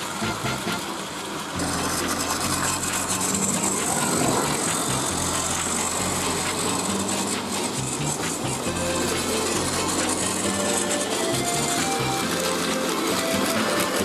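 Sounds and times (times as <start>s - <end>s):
background music bass line: 0.0s - 0.9s, 1.6s - 14.0s
toy train motor whirring: 0.0s - 14.0s
toy train wheels clattering: 0.0s - 14.0s.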